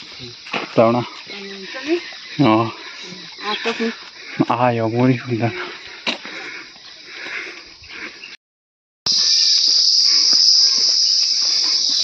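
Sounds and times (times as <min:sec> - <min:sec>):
insects buzzing: 0:00.0 - 0:08.3, 0:09.1 - 0:12.0.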